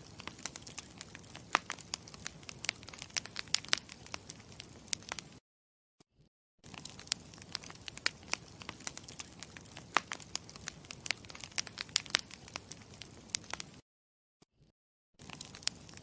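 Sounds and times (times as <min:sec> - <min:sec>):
campfire crackling: 0:00.0 - 0:05.4, 0:06.6 - 0:13.8, 0:15.2 - 0:16.0.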